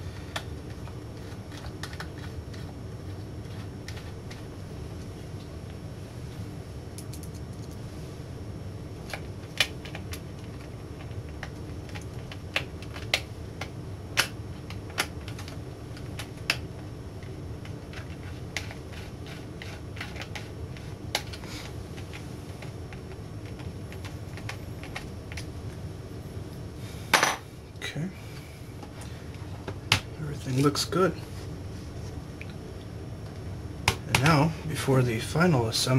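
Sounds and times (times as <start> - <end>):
low background hum: 0.0 - 35.9.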